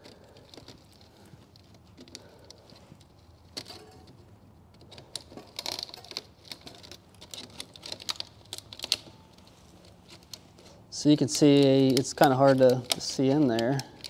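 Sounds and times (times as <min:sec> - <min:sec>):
pliers clicking and scraping metal: 0:00.0 - 0:10.4, 0:11.0 - 0:14.0.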